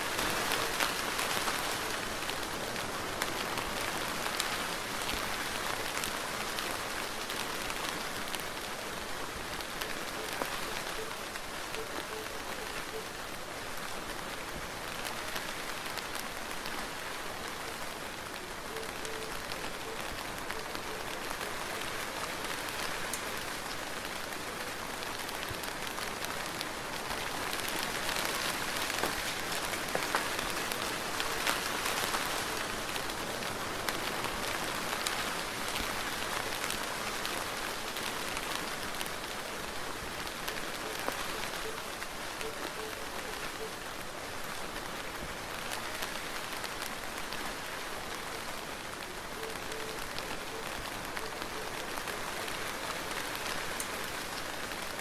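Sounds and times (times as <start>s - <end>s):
soft rain falling: 0.0s - 55.0s.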